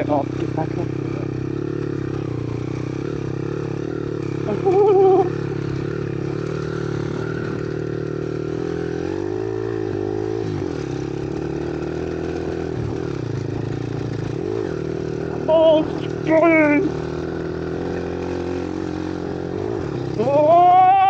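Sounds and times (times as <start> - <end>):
small engine running and revving: 0.0 - 21.0.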